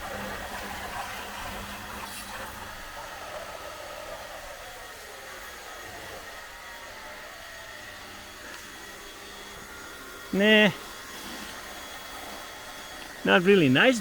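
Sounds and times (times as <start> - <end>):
pressure washer running: 0.0 - 14.0.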